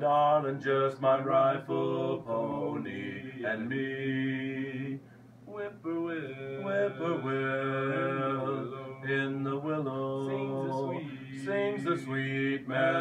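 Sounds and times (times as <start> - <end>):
men singing in harmony: 0.0 - 13.0.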